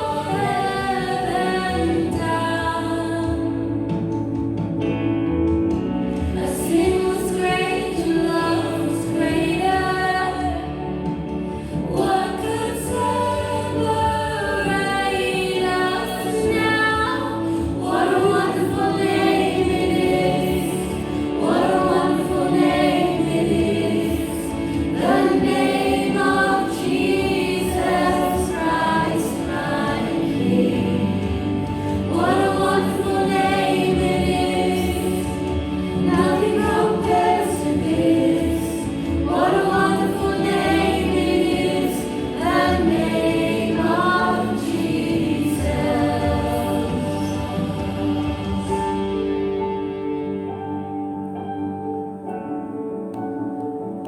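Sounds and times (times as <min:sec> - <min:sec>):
group singing in harmony: 0:00.0 - 0:04.9, 0:05.7 - 0:49.6.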